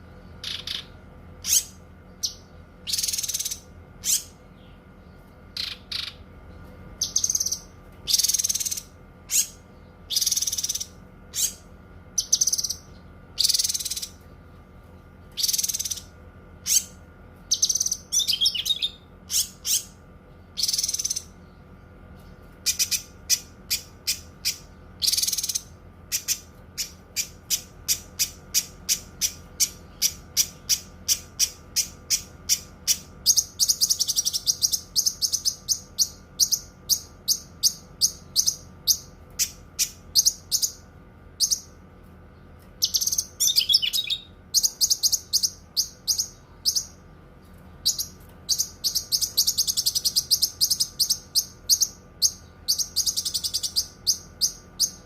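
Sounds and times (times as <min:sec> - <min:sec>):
bird buzzy calls and chirps: 0:00.0 - 0:55.0.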